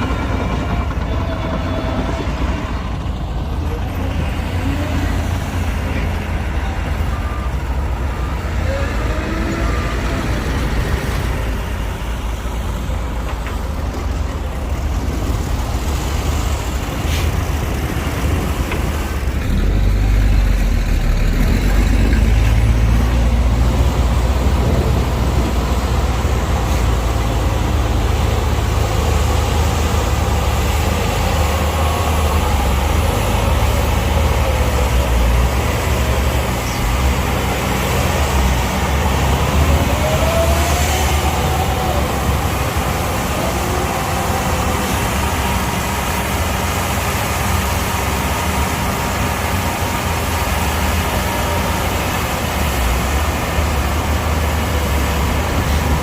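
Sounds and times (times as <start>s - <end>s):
deep diesel engine drone: 0.0s - 56.0s.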